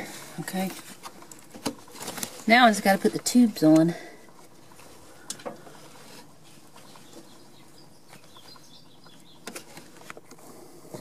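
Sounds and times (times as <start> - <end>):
rubber hose handling noises: 0.0 - 11.0.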